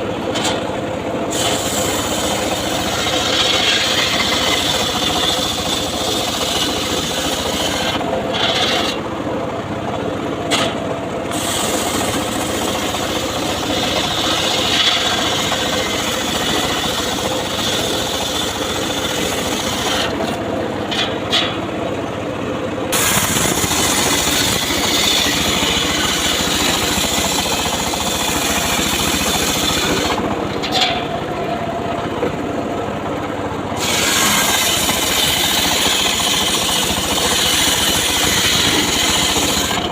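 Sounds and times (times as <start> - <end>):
saw cutting wood: 0.0 - 9.2, 10.5 - 21.8, 22.9 - 31.2, 33.7 - 39.9
circular saw running: 0.0 - 39.9.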